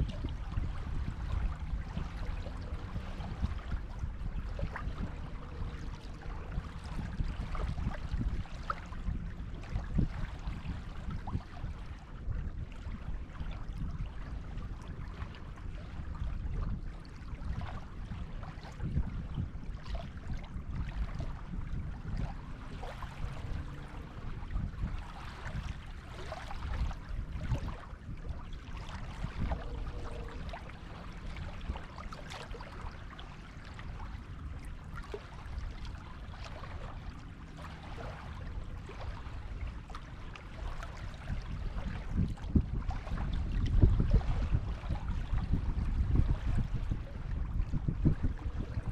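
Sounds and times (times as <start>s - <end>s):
small waves washing on beach: 0.0s - 48.9s
steady low rumble: 0.0s - 48.9s.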